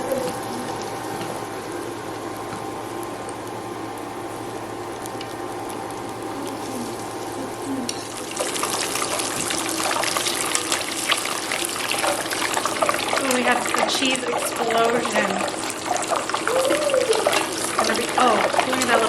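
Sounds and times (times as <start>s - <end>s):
food deep-frying in hot oil: 0.0s - 19.0s.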